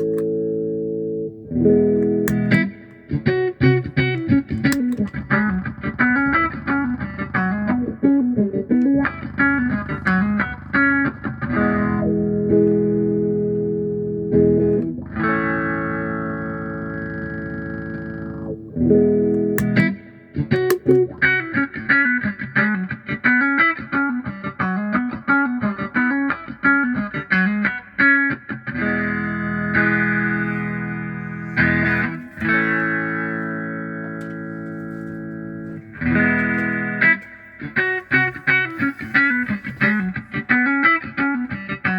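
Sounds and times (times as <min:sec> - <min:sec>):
electric guitar with wah pedal: 0:00.0 - 0:41.9.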